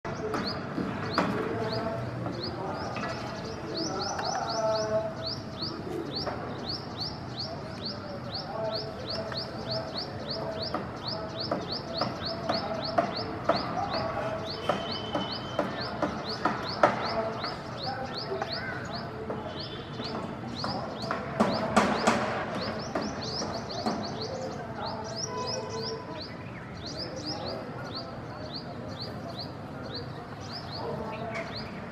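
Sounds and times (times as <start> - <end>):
small bird calling: 0.1 - 31.9.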